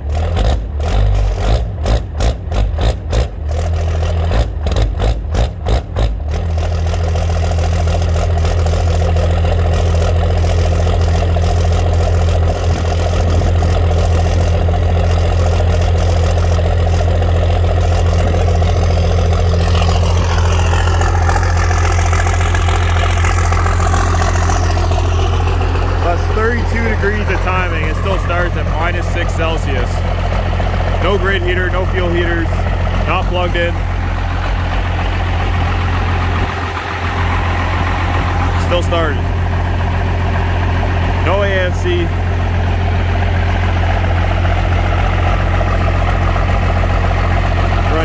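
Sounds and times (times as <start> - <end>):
diesel engine running rough: 0.0 - 48.0.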